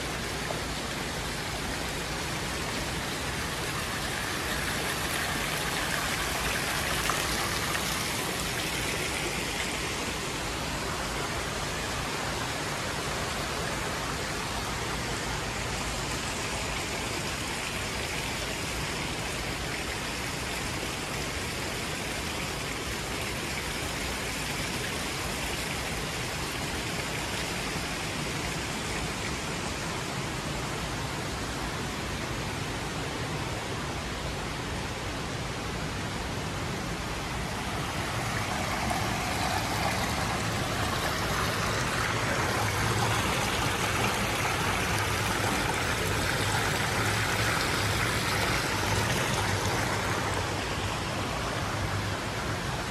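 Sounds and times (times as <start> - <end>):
fountain water splashing: 0.0 - 52.9.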